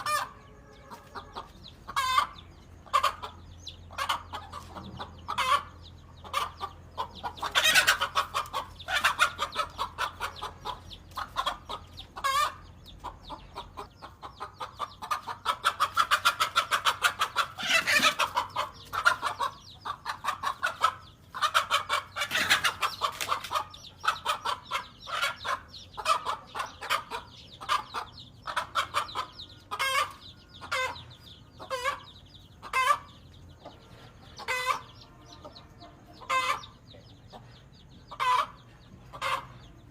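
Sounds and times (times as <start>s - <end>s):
hen alarm clucking: 0.0s - 39.9s.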